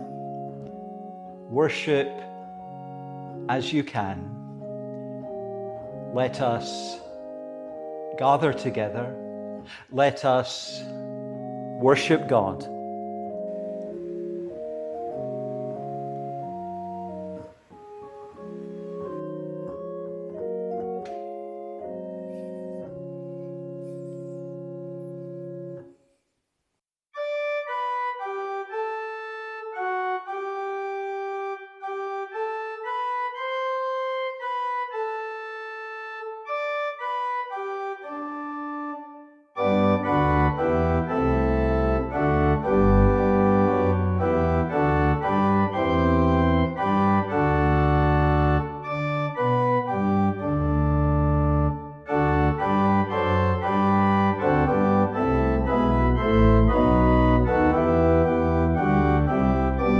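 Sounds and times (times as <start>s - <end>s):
organ playing a hymn: 0.0s - 26.2s, 27.2s - 59.9s.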